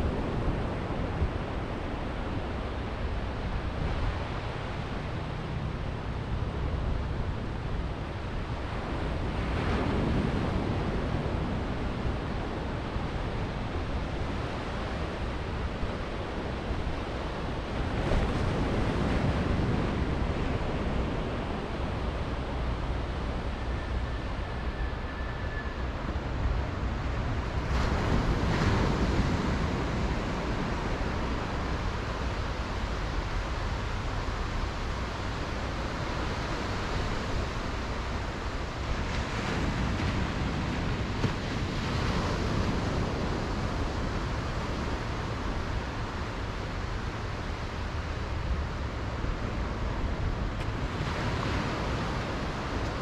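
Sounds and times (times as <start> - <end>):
small waves on sandy beach: 0.0 - 23.9, 26.8 - 53.0.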